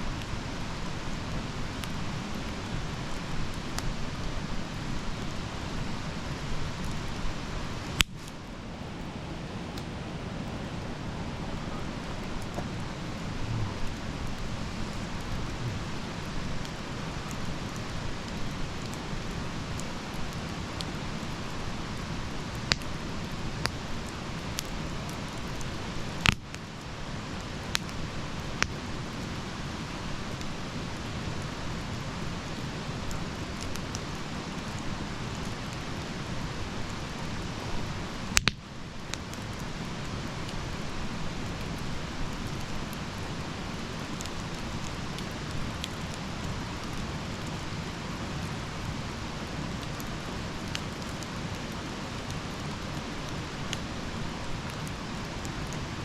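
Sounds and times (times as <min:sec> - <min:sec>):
fire crackling and popping: 0:00.0 - 0:56.0
wood fire hissing: 0:00.0 - 0:56.0.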